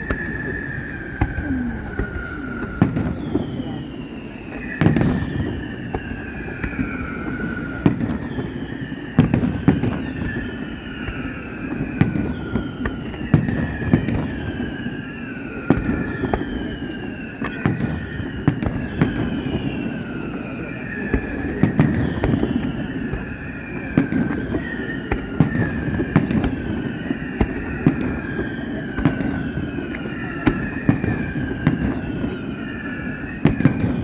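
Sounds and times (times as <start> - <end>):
falling firework whistles: 0.0 - 34.0.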